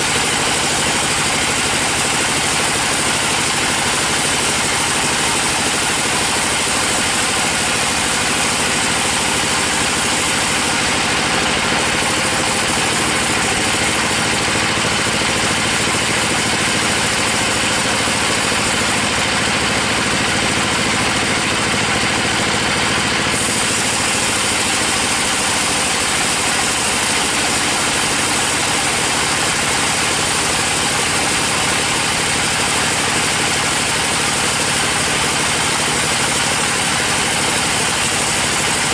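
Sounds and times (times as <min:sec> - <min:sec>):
bandsaw cutting log: 0:00.0 - 0:38.9.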